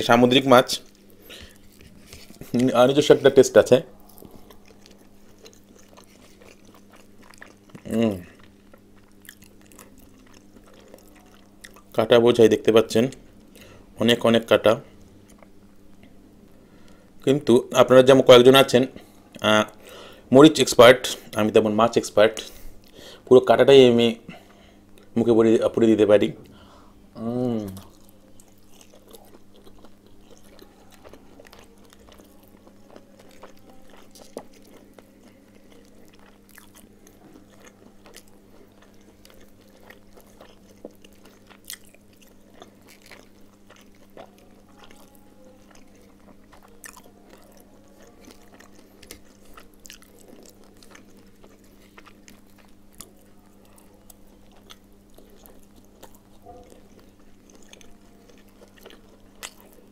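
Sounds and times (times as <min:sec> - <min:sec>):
person chewing and crunching: 0:00.0 - 0:16.2, 0:26.4 - 0:59.9
faint steady hum: 0:00.0 - 0:59.9.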